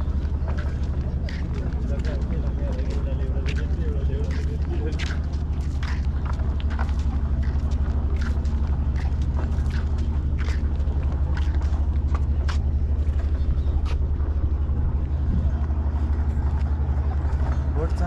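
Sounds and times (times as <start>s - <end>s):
large engine throbbing: 0.0s - 18.0s.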